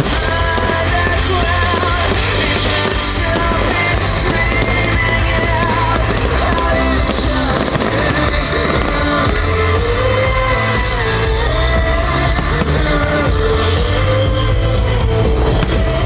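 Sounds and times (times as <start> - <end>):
loud rock music: 0.0 - 16.0
person singing: 0.0 - 16.0
steady bass line: 0.0 - 16.0.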